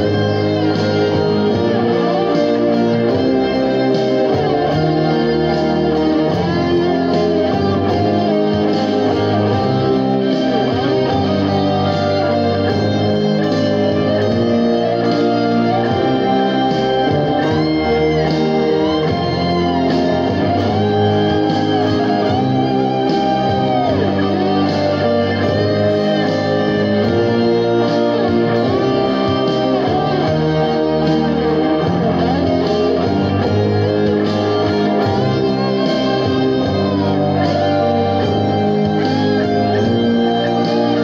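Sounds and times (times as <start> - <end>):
backing track with bass and keyboards: 0.0 - 41.0
electric guitar lead with bends: 0.0 - 41.0.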